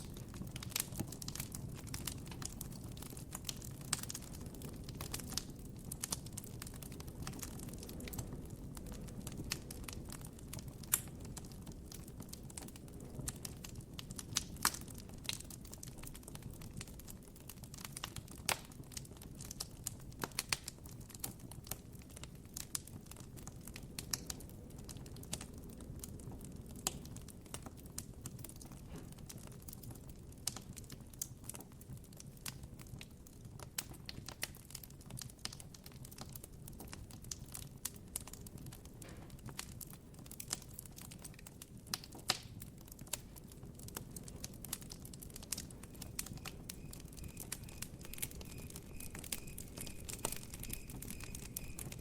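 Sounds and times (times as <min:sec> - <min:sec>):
burning wood popping and snapping: 0:00.0 - 0:52.0
low rumble of fire: 0:00.0 - 0:52.0.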